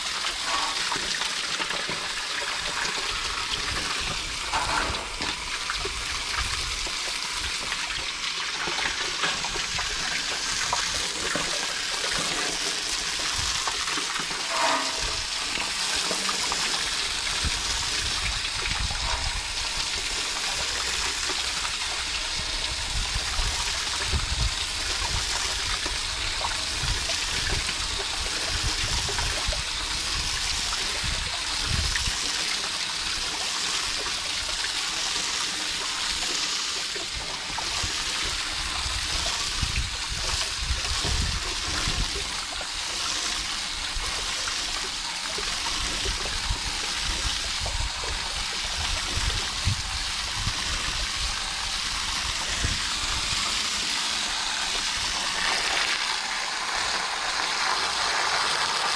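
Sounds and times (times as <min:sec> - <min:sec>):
hose spraying water: 0:00.0 - 0:58.9.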